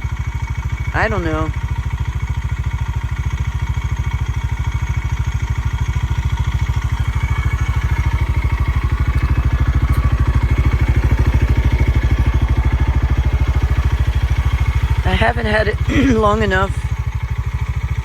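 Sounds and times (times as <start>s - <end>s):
utility vehicle engine running: 0.0s - 18.0s.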